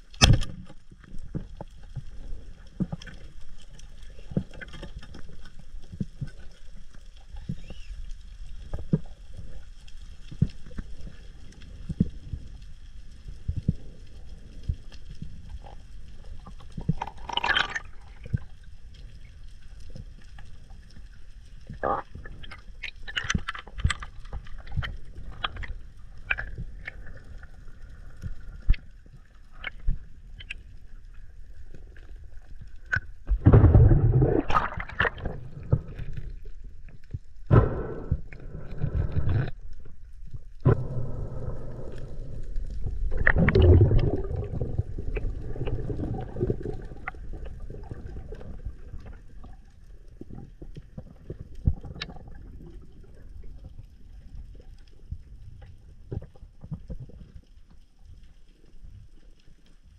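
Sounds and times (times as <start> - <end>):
underwater crackling clicks: 0.0 - 59.9.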